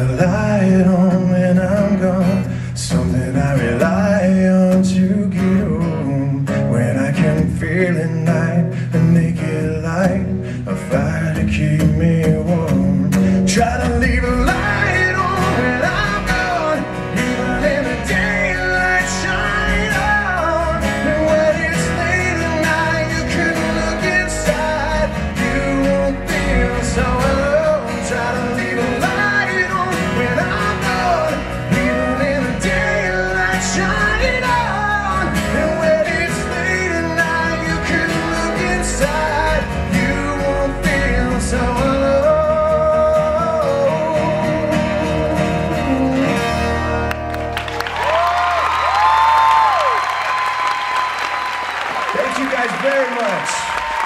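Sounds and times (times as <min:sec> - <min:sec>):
man singing: 0:00.0 - 0:46.9
acoustic guitar strummed: 0:00.0 - 0:47.8
live rock band: 0:00.0 - 0:54.0.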